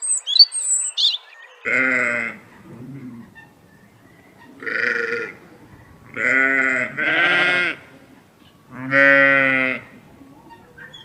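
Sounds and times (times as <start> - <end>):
livestock bleating: 1.6 - 10.8.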